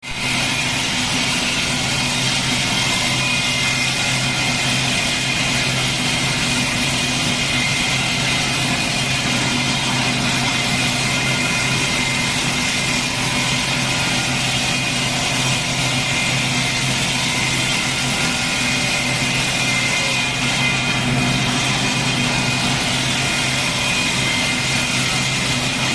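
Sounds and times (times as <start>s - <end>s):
stone lathe humming and hissing: 0.0s - 25.9s.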